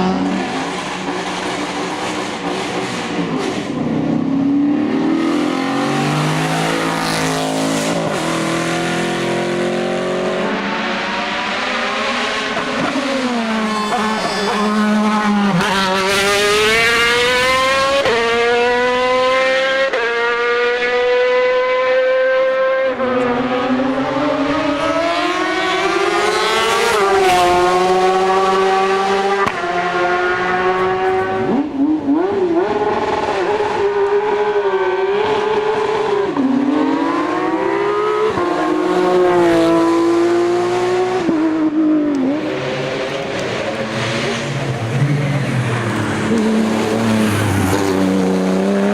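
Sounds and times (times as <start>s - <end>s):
race car engine revving through gears: 0.0s - 48.9s.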